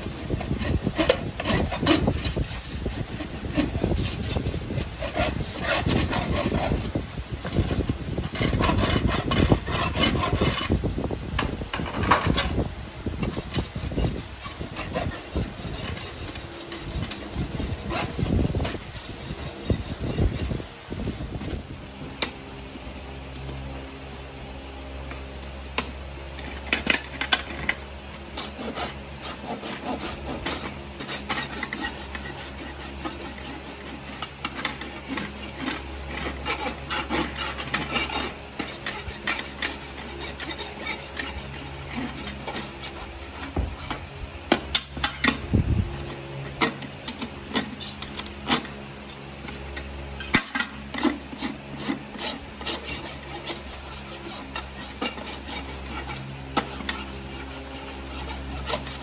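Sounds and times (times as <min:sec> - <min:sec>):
hoof rasp scraping: 0:00.0 - 0:10.9, 0:11.7 - 0:21.4, 0:26.4 - 0:59.0.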